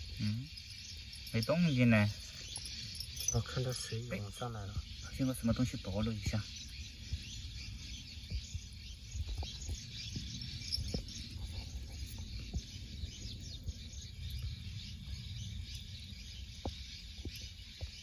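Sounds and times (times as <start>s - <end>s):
birds chirping: 0.0s - 18.0s
insects chirping: 0.0s - 18.0s.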